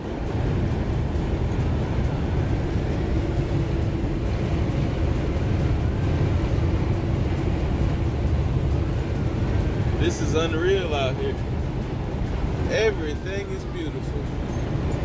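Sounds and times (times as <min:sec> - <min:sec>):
road rumble: 0:00.0 - 0:15.0
truck engine drone: 0:00.0 - 0:15.0.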